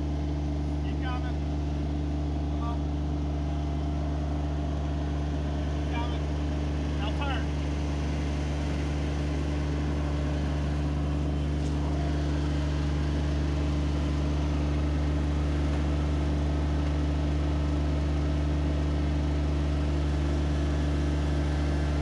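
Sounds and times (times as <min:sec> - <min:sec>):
tractor engine humming: 0:00.0 - 0:22.0.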